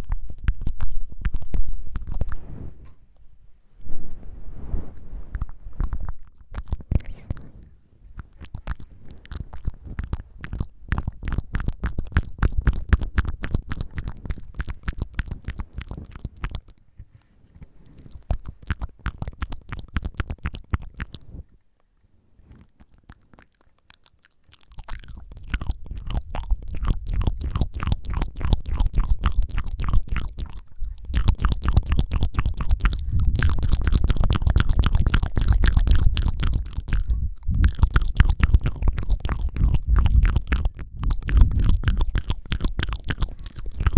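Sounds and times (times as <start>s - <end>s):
wet tongue fluttering and clicking: 0.0s - 2.4s, 5.3s - 21.5s, 22.5s - 43.9s.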